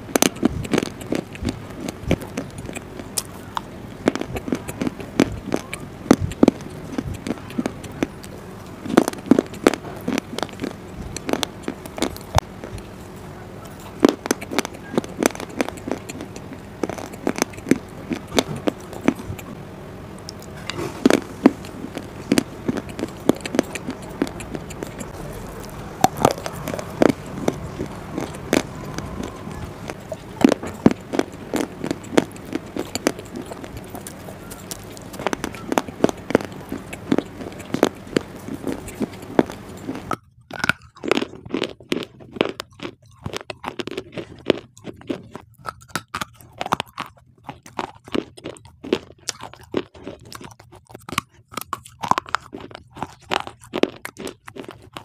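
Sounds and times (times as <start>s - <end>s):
crunching and chewing biscuits: 0.0s - 55.0s.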